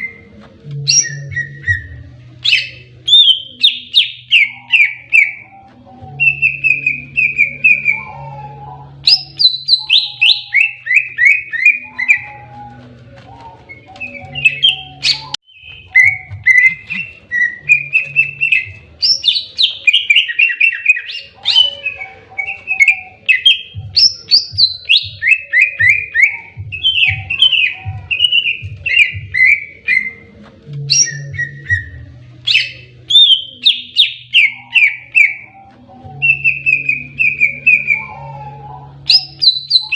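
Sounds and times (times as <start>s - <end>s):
bird singing rapid chirps: 0.8s - 39.9s.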